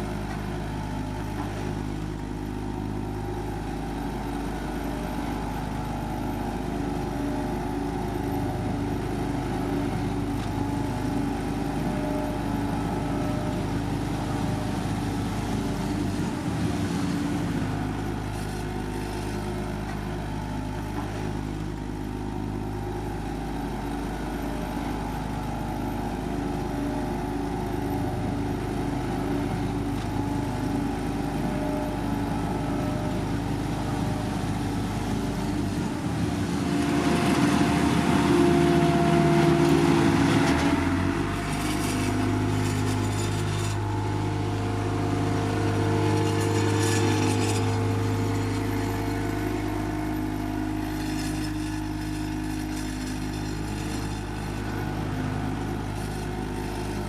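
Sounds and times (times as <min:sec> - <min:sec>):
diesel engines of paving machinery: 0:00.0 - 0:57.0.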